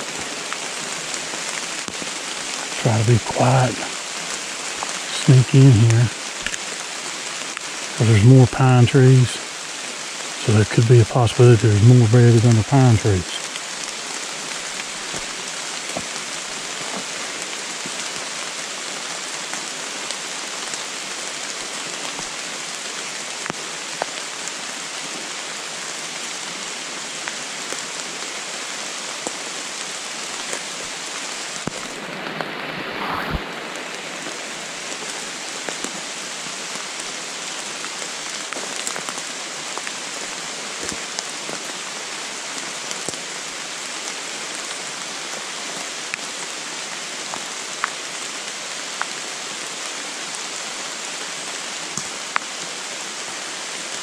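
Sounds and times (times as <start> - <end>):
rain on leaves: 0.0 - 54.0.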